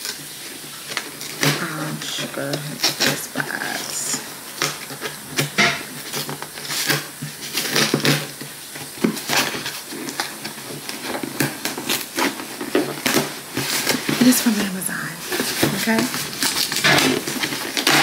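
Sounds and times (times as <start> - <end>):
cardboard box being opened: 2.8 - 18.0.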